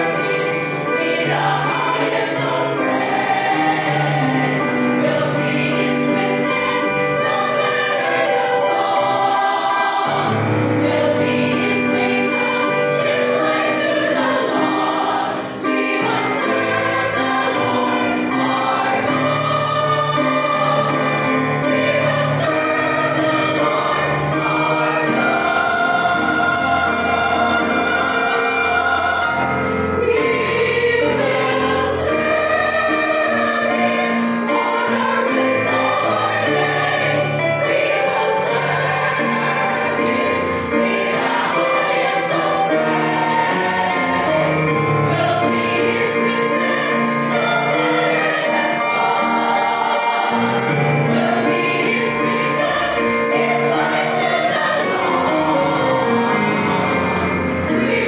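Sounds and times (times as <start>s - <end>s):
piano accompaniment: 0.0s - 58.0s
women's choir singing gospel: 0.0s - 58.0s.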